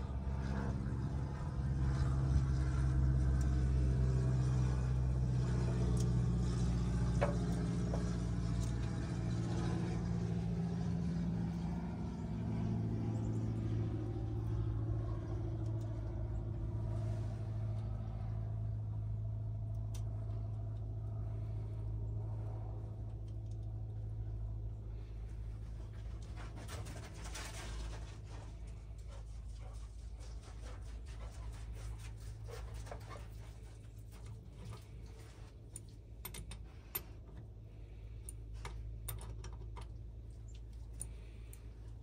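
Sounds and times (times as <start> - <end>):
motor running drone: 0.0 - 42.0.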